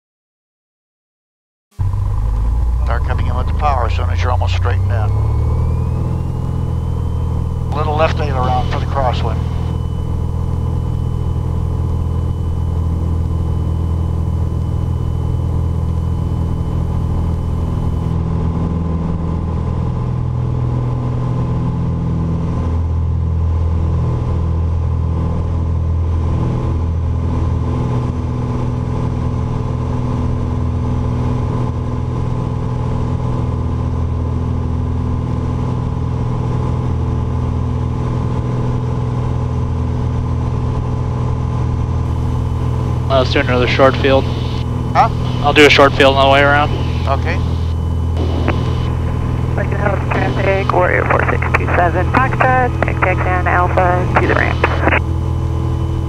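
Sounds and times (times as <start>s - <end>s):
propeller plane engine drone: 1.8s - 56.0s.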